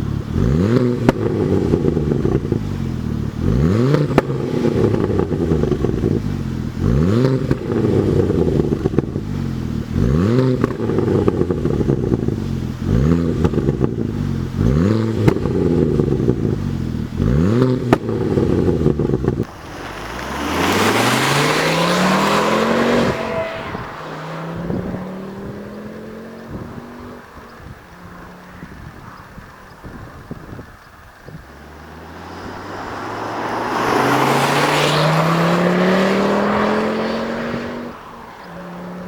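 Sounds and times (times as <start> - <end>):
car engine revving through exhaust: 0.0 - 39.0.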